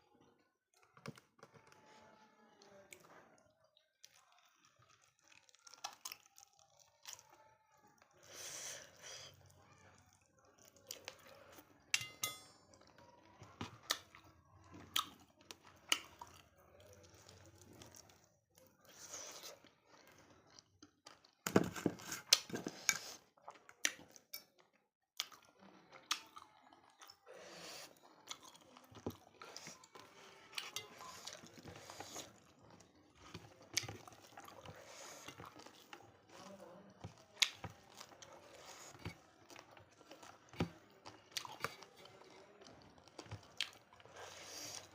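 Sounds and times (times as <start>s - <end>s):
chewing and mouth clicks: 2.6s - 8.2s, 9.6s - 21.6s, 22.2s - 44.9s.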